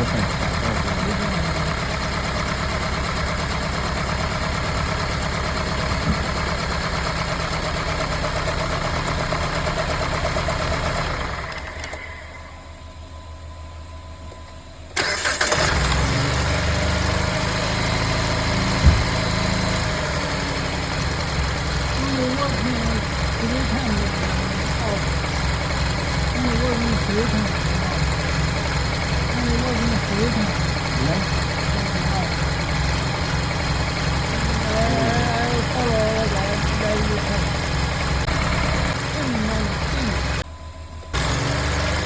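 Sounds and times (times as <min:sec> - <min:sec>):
car engine starting: 0:00.0 - 0:12.7, 0:14.8 - 0:40.5, 0:41.1 - 0:42.0
car engine winding down: 0:00.0 - 0:12.8, 0:14.9 - 0:42.0
car engine idling: 0:00.0 - 0:42.0.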